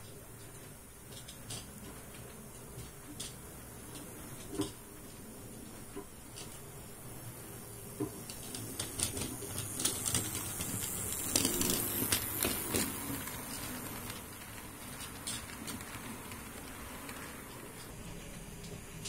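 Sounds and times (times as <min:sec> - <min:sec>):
model train wheels clattering: 0:00.0 - 0:19.0.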